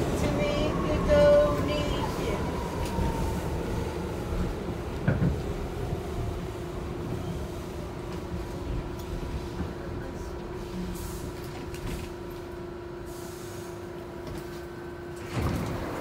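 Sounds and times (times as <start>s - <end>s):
subway train rumbling on track: 0.0s - 16.0s.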